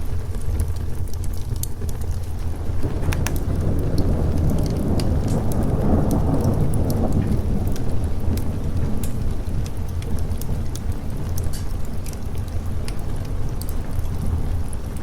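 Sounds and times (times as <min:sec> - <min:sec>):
steady rain: 0:00.0 - 0:15.0
wood fire crackling: 0:00.0 - 0:15.0
thunder rolling: 0:02.4 - 0:15.0.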